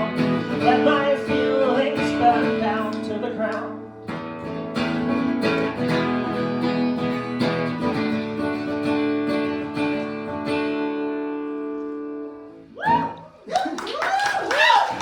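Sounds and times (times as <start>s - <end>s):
guitar strumming chords: 0.0s - 12.7s.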